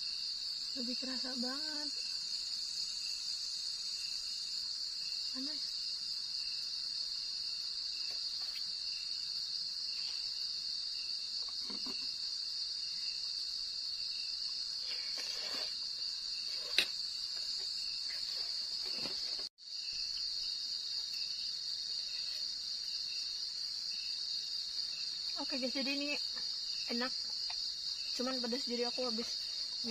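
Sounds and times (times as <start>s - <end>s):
crickets trilling: 0.0s - 29.9s.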